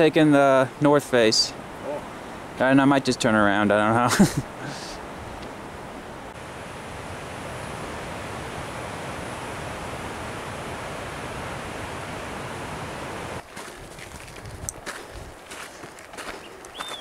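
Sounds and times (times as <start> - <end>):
cascading mountain stream: 0.0 - 17.0.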